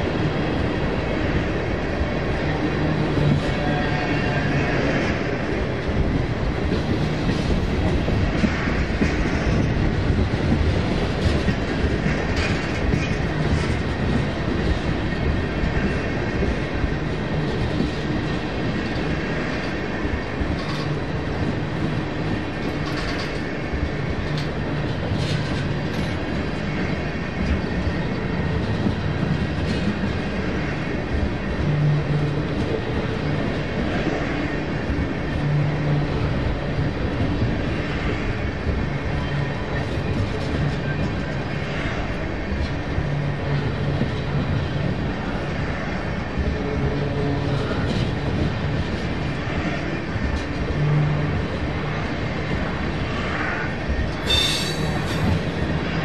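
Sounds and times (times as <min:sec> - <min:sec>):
train wheels clicking over rails: 0:04.2 - 0:56.0.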